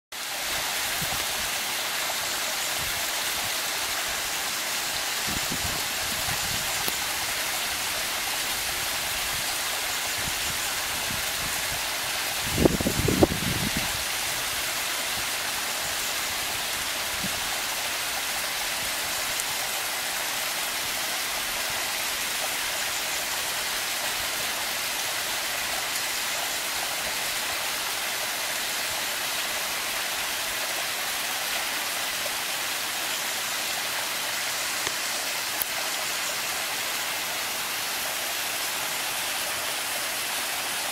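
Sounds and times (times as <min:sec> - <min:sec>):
waterfall splashing on boulders: 0:00.1 - 0:40.9.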